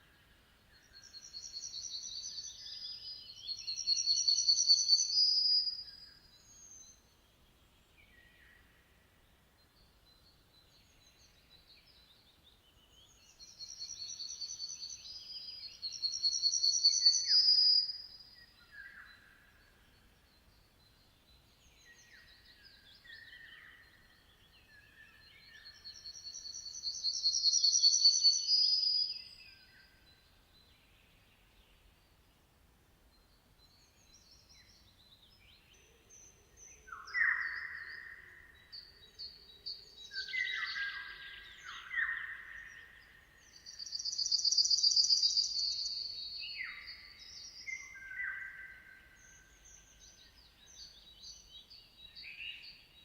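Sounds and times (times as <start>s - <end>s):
songbird trilling song: 0.0s - 32.4s, 33.0s - 53.0s
quiet low bird calls: 0.0s - 53.0s.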